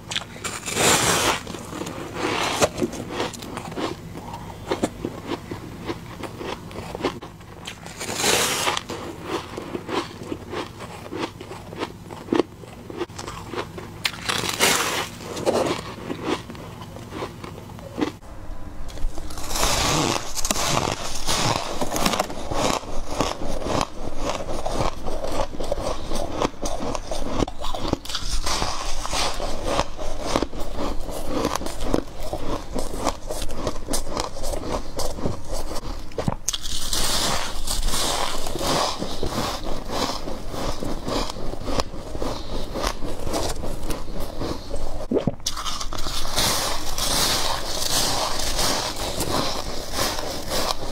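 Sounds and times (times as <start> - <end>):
crunching bites of frost: 6.2 - 16.5, 19.0 - 50.9.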